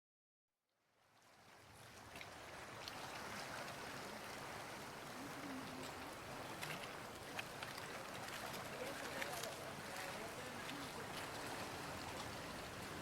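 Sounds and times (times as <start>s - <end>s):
water rushing: 1.0s - 13.0s.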